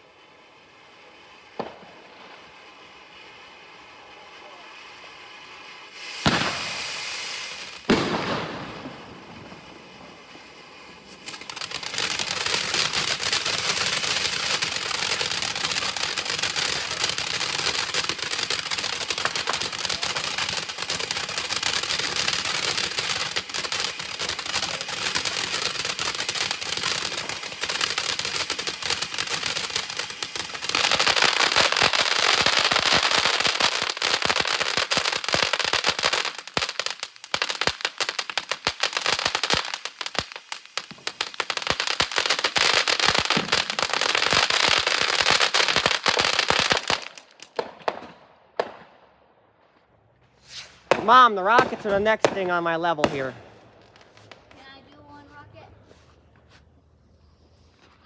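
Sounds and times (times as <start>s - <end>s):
firework fountain crackling: 0.0s - 49.0s, 49.7s - 58.0s
firework sharp crack: 0.0s - 55.3s.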